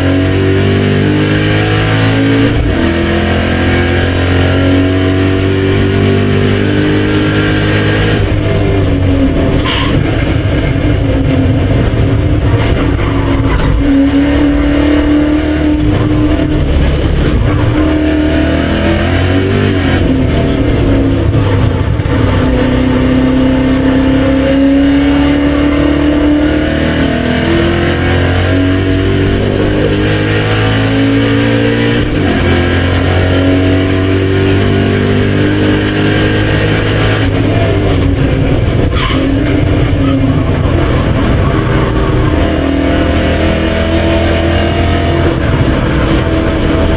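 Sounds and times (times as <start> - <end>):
race car engine accelerating: 0.0 - 46.9.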